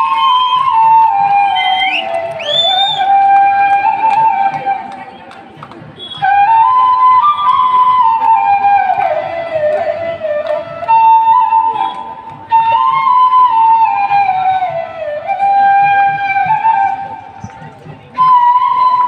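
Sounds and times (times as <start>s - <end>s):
solo flute melody: 0.0s - 19.0s.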